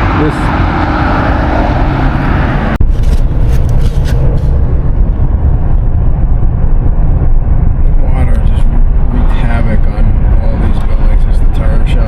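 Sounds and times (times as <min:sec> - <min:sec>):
car road rumble: 0:00.0 - 0:12.0
wind and road hiss: 0:00.0 - 0:12.0.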